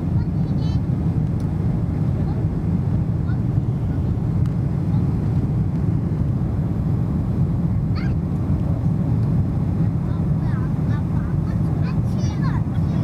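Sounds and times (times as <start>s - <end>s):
jet engines rumbling: 0.0s - 13.0s
rushing air: 0.0s - 13.0s.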